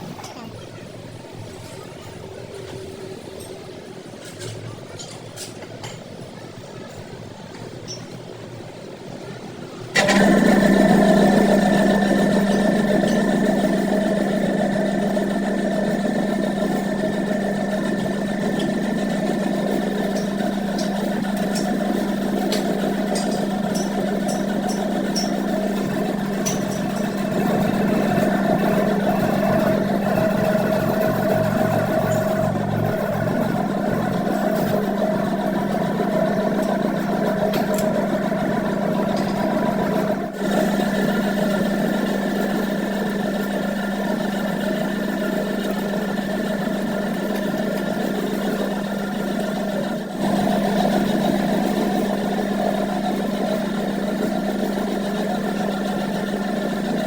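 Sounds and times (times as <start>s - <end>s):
workshop machine humming: 0.0s - 57.0s.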